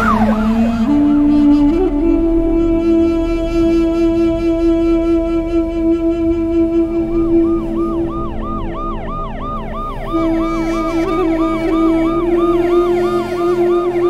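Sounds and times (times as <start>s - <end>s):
ambulance siren yelping: 0.0s - 14.0s
low held tone: 0.0s - 14.0s.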